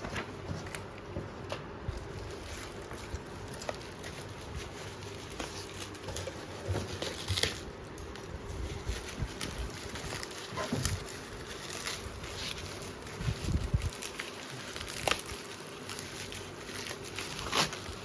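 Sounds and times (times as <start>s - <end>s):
clicks and rustles of packaging: 0.0s - 18.0s.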